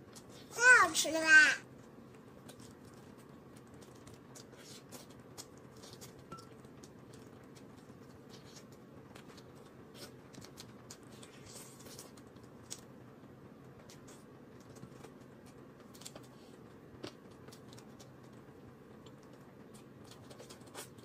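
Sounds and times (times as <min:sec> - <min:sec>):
person chewing meat: 0:02.1 - 0:12.9, 0:13.7 - 0:21.0.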